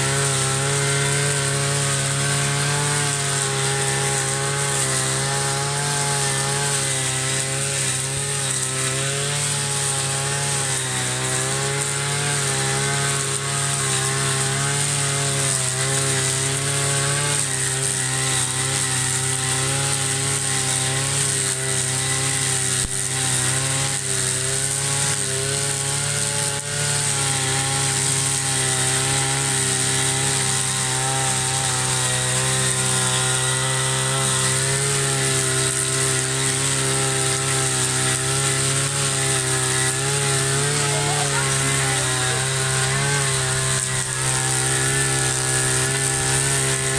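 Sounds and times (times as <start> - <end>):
brush cutter engine cutting grass: 0.0 - 46.9.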